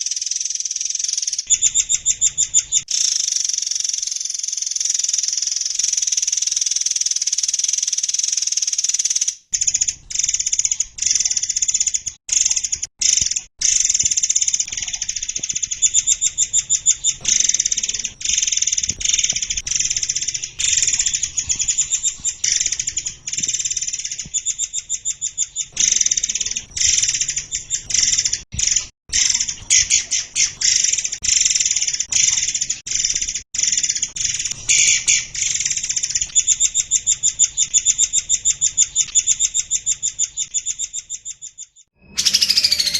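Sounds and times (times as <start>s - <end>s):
songbird high-pitched song: 0.0s - 42.9s.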